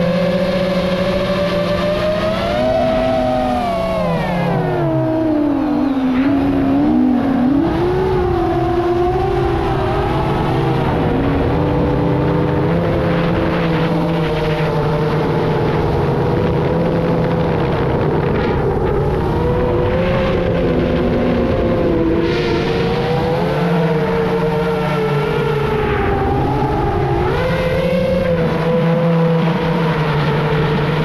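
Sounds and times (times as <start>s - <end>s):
quadcopter motors whining: 0.0s - 31.0s.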